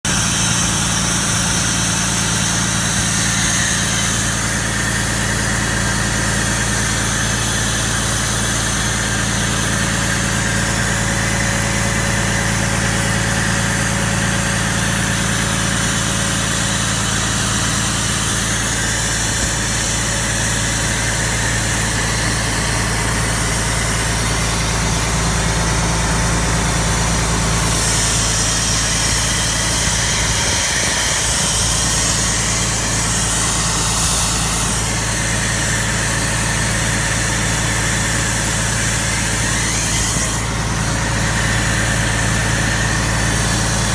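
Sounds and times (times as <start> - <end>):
compressor engine humming: 0.0 - 43.9.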